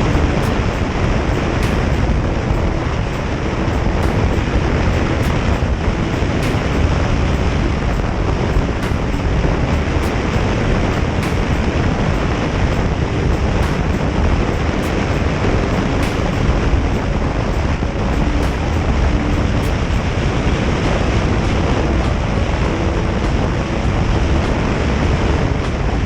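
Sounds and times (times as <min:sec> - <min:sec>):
tyres on road: 0:00.0 - 0:26.0
wind on microphone: 0:00.0 - 0:26.0.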